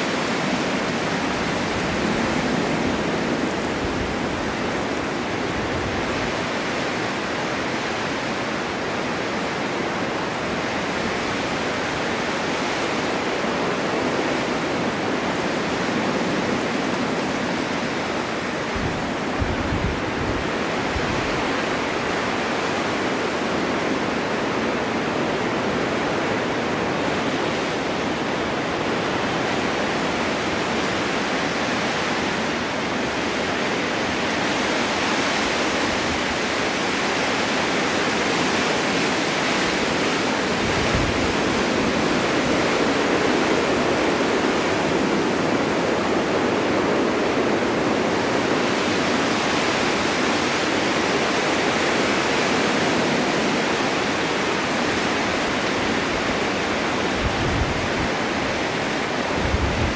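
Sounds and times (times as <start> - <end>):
wind in a snowstorm: 0.0 - 59.9.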